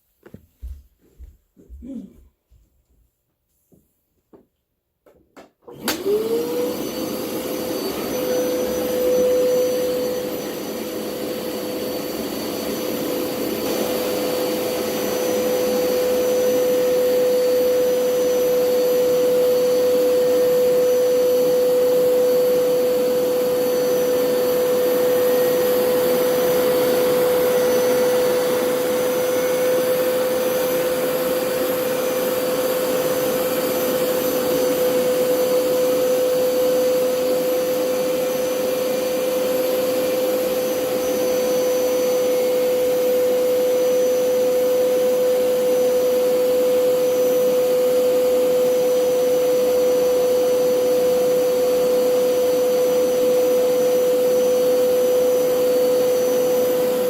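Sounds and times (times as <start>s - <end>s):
carpet cleaner motor whine: 5.6s - 57.0s.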